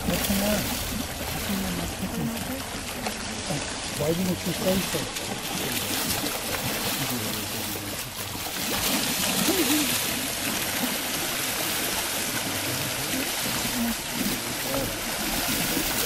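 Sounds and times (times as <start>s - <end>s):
creek rushing over stones: 0.0s - 16.0s.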